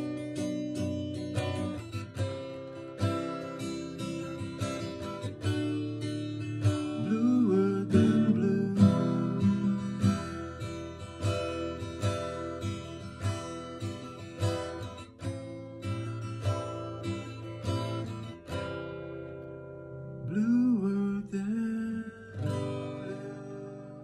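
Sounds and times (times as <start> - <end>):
acoustic guitar ballad: 0.0 - 24.0.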